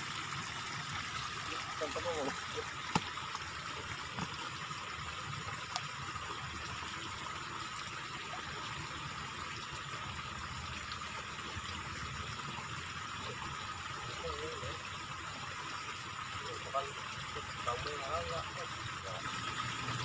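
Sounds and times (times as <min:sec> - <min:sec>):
water flowing in a ditch: 0:00.0 - 0:20.0.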